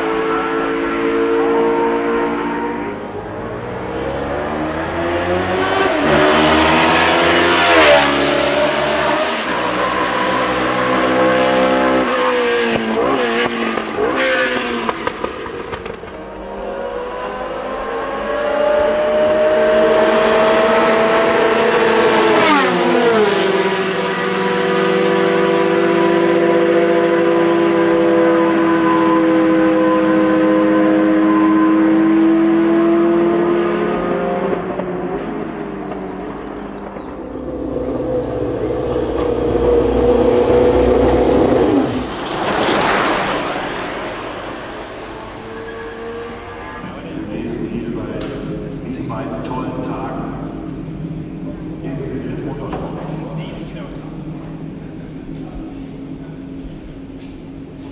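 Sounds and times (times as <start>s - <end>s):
racing car engine steady high note: 0.0s - 42.5s, 43.4s - 57.9s
racing car engine passing by: 0.0s - 57.9s.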